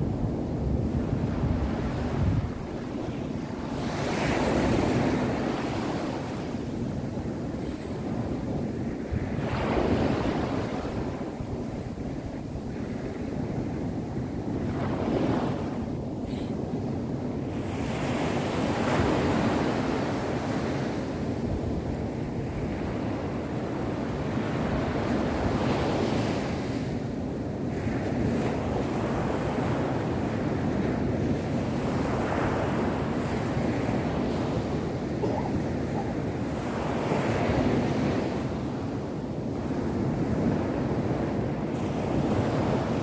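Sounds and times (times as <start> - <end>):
waves washing up a beach: 0.0 - 43.0
wind rumbling on microphone: 0.0 - 43.0.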